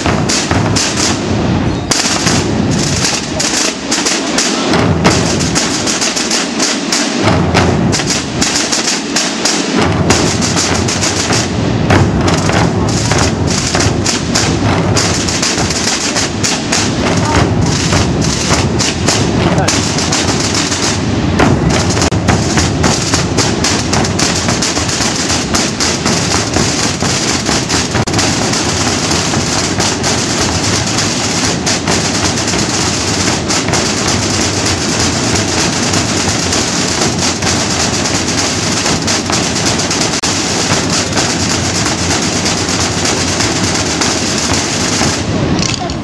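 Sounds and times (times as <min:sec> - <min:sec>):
drum band playing: 0:00.0 - 0:46.0.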